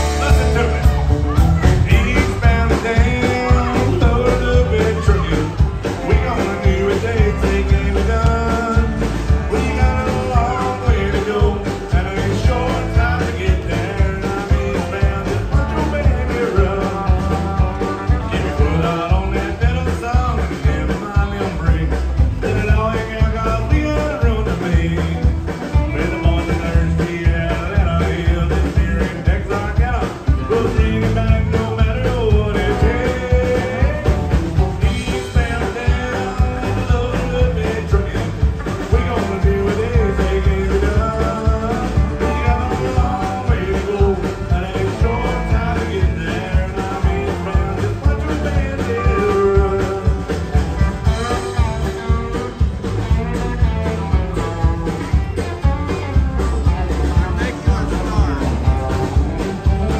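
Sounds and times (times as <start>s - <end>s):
country band playing: 0.0s - 59.9s
fiddle: 0.0s - 59.9s
lead singer: 0.0s - 59.9s.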